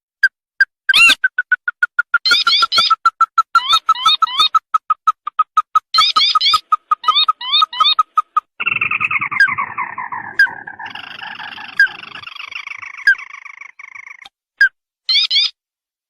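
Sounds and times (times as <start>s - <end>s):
rising bird chirps: 0.9s - 14.3s
bird trilling with sharp notes: 0.9s - 15.6s.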